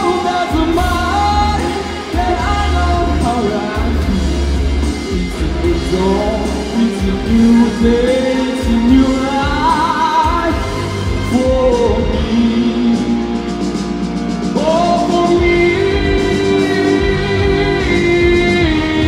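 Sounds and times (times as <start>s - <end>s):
band music with drums and bass: 0.0s - 19.0s
man singing into microphone: 0.0s - 19.0s.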